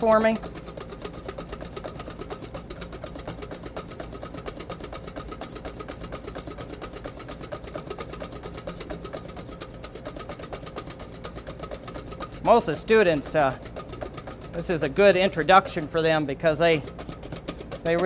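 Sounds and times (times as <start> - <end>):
whisk beating in metal bowl: 0.0 - 18.0.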